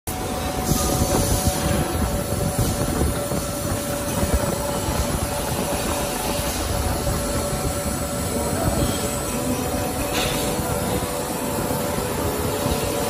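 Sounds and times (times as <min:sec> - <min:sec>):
faint steady whine: 0:00.1 - 0:13.0
loud mechanical rumble: 0:00.1 - 0:13.0.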